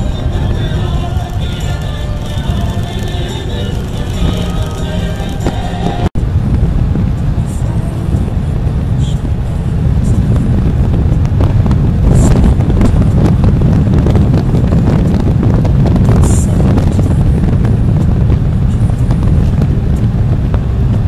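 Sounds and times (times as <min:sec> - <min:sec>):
motorcycle engine: 0:00.0 - 0:21.0
wind buffeting microphone: 0:00.0 - 0:21.0.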